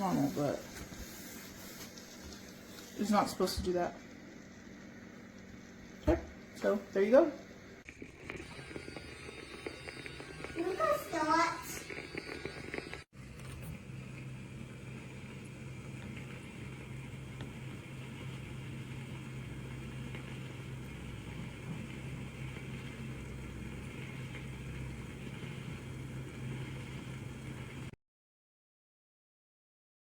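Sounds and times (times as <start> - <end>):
facial steamer humming and hissing: 0.0 - 27.9.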